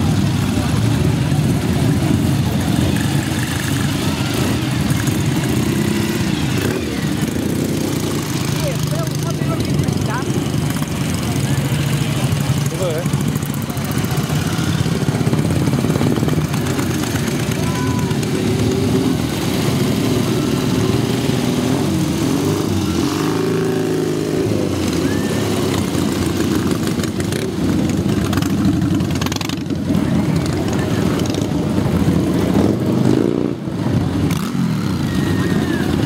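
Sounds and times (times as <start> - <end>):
motorcycle engines passing: 0.0 - 36.0.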